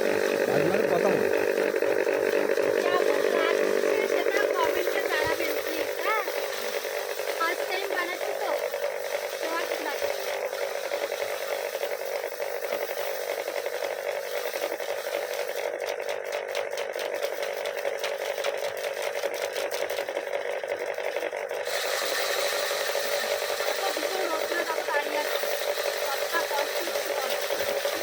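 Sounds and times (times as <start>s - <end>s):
threshing machine whirring: 0.0s - 28.0s.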